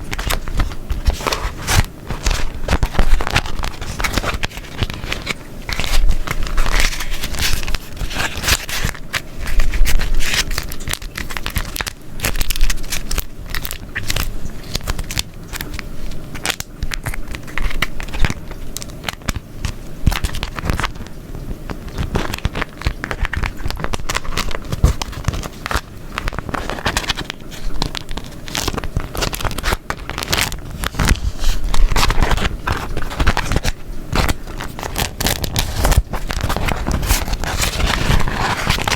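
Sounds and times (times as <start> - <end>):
wax wrap crumpling and crinkling: 0.0 - 38.9.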